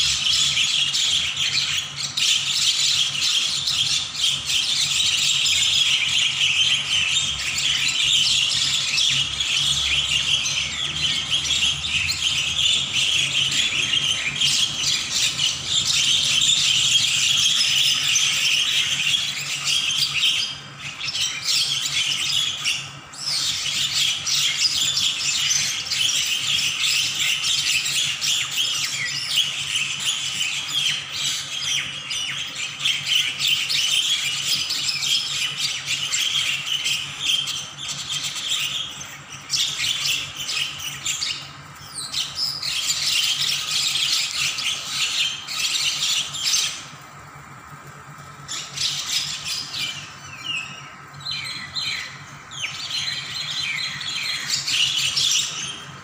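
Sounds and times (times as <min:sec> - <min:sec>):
birds squawking and chattering: 0:00.0 - 0:56.0.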